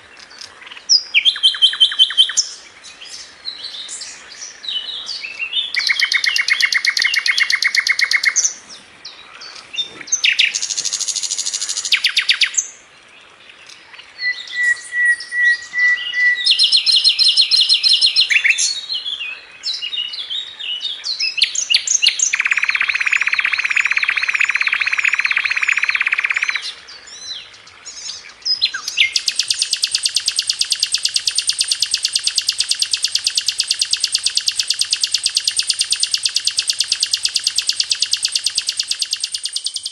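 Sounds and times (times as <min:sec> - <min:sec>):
flycatcher singing rattling trills: 0:00.2 - 0:08.6, 0:09.4 - 0:12.7, 0:16.2 - 0:18.8, 0:21.2 - 0:26.7, 0:27.8 - 0:39.9.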